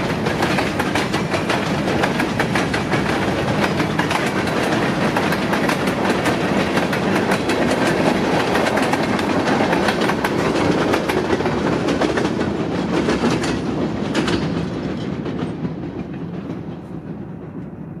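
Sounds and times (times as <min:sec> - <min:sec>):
train wheels clattering over rails: 0:00.0 - 0:18.0.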